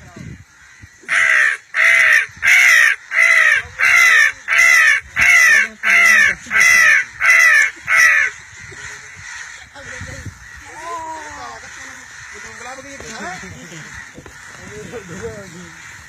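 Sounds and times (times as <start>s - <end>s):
boy imitating crow caws: 0.9s - 15.9s.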